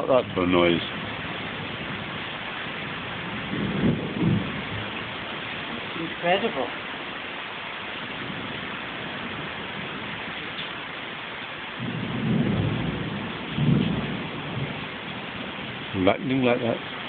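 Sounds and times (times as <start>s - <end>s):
heavy rain falling: 0.0s - 17.0s
thunder rumbling: 0.0s - 17.0s.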